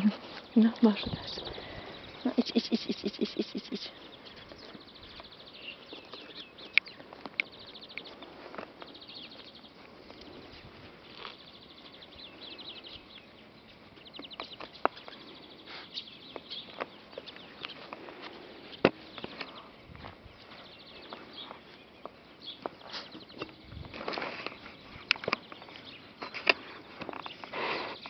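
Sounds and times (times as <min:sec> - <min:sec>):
small birds trilling and chirping: 0:00.0 - 0:28.0.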